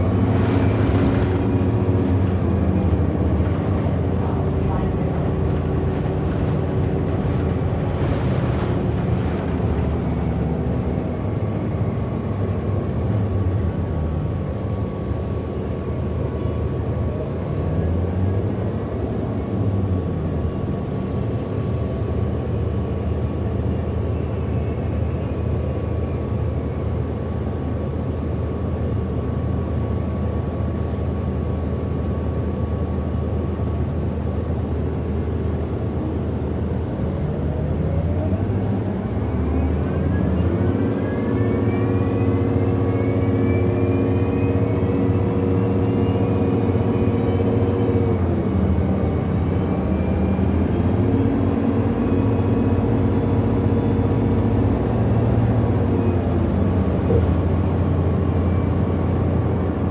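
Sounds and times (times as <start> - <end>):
bus drivetrain rumble: 0.0 - 59.9.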